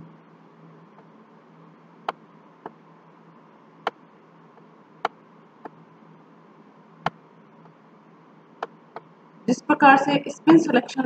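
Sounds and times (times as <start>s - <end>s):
faint steady hiss and hum: 0.0s - 11.0s.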